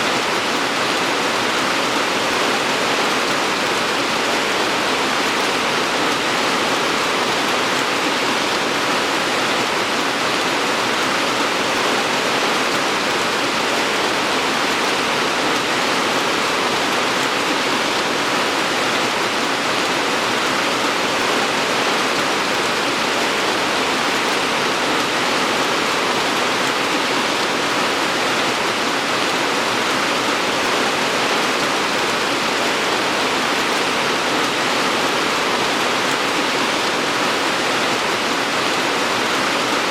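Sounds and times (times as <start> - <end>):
rainfall hiss: 0.0 - 39.9.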